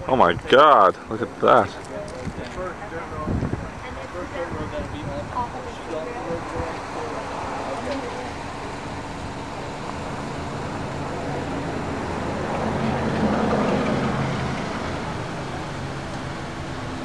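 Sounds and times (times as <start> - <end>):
road vehicle passing: 0.0 - 17.0.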